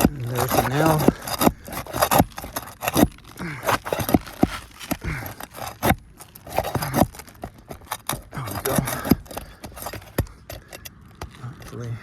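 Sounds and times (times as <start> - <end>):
tool scraping and knocking on shingle: 0.0 - 12.0.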